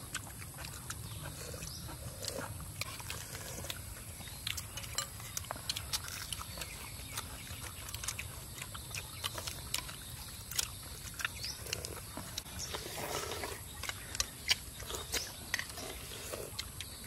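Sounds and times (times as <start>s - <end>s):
wet chewing mouth clicks: 0.0s - 17.0s.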